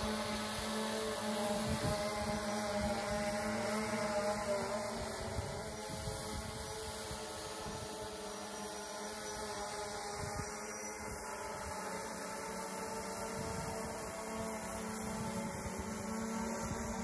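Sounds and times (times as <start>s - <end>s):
droning hum: 0.0s - 17.0s.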